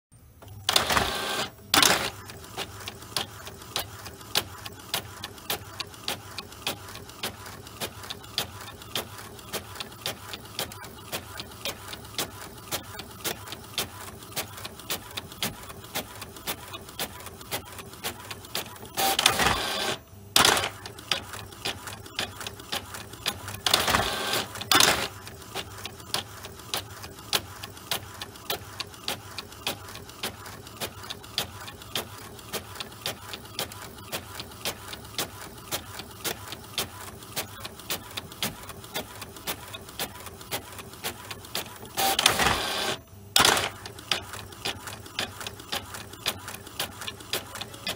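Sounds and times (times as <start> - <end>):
printer ticking: 0.2 - 47.9
printer whirring: 0.2 - 47.9.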